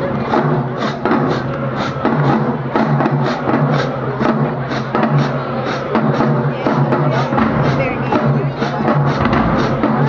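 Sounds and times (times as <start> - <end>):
drumline beat: 0.0 - 10.0
marching band playing: 0.0 - 10.0.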